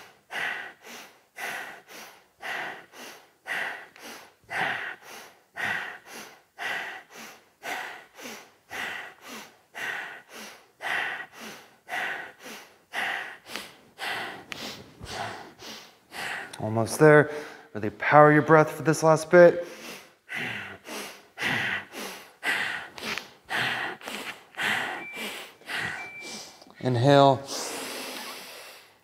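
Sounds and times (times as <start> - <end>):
forceful rhythmic breathing: 0.0 - 29.0.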